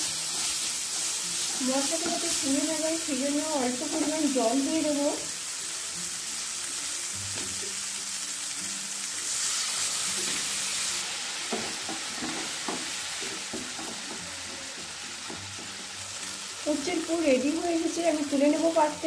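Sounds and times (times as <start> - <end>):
masala sizzling in a pan: 0.0 - 19.0.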